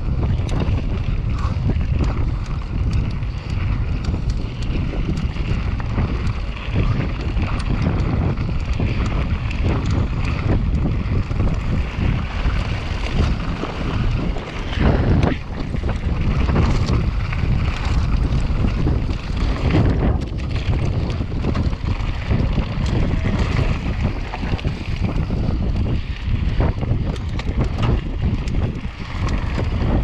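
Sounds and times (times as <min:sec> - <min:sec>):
bike rattles and knocks: 0:00.0 - 0:30.0
wind buffeting microphone: 0:00.0 - 0:30.0
tyres rumbling on rocky ground: 0:00.2 - 0:30.0.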